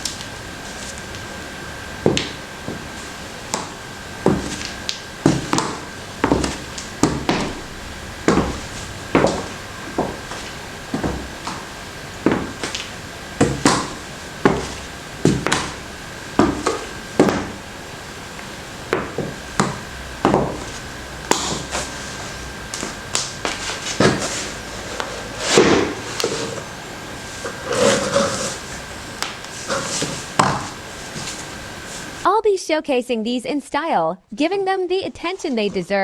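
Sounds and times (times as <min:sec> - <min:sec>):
heels clicking on hard floor: 0:02.0 - 0:32.2.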